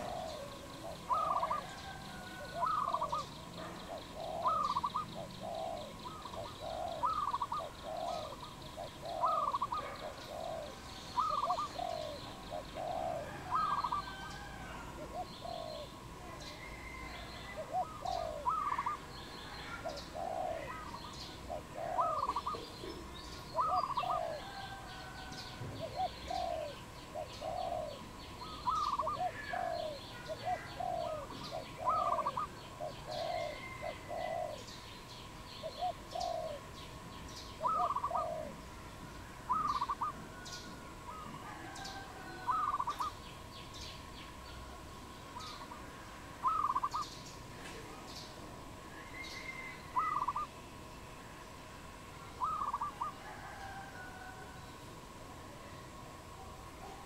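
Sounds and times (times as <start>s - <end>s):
dove cooing: 0.0s - 35.0s, 35.6s - 43.3s, 45.3s - 48.2s, 48.9s - 50.6s, 52.3s - 54.6s
small birds chirping: 0.0s - 53.6s
faint steady tone: 0.0s - 57.0s.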